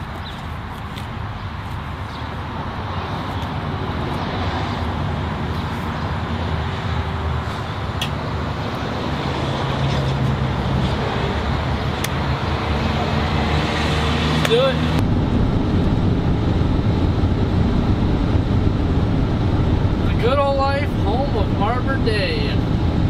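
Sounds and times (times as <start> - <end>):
road and wind noise: 0.0 - 23.0
vehicle engine drone: 0.0 - 23.0.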